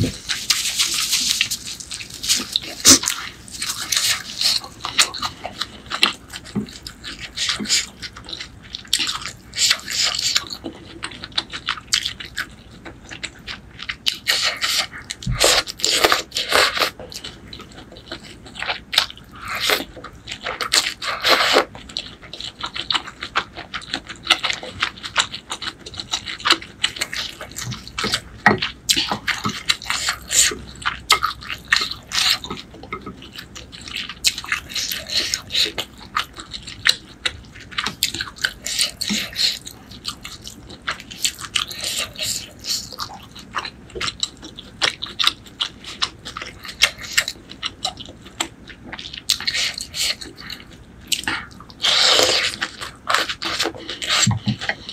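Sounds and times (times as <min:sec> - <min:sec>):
noodles slurped and chewed: 0:00.0 - 0:54.9.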